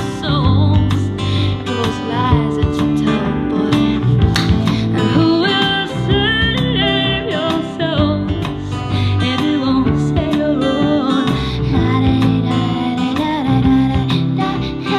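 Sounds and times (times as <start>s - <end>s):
acoustic guitar song over loudspeakers: 0.0s - 14.9s.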